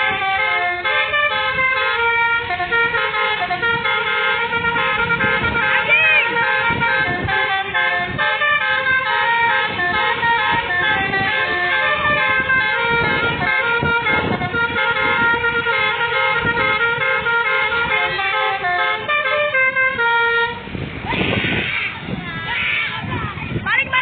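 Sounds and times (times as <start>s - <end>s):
multi-tone horn melody: 0.0s - 22.9s.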